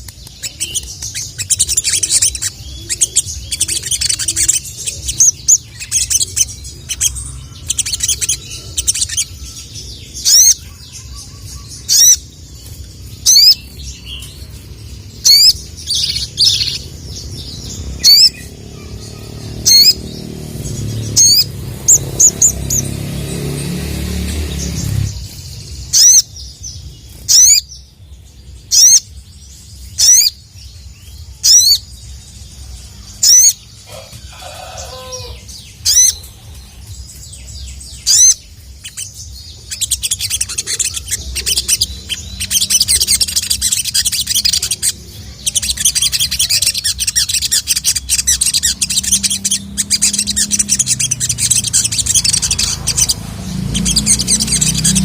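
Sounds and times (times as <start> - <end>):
bird sharp calls: 0.0 - 14.3, 15.2 - 26.4, 27.0 - 27.7, 33.2 - 55.0
bird high twittering chatter: 0.0 - 55.0.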